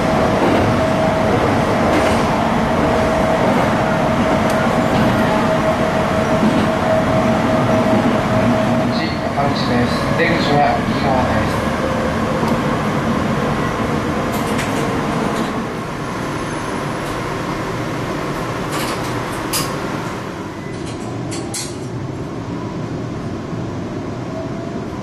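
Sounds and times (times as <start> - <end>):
train rumbling inside car: 0.0 - 25.0.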